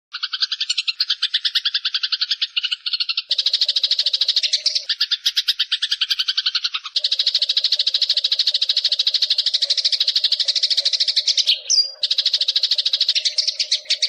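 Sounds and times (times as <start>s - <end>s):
songbird rattling trills: 0.1s - 14.0s.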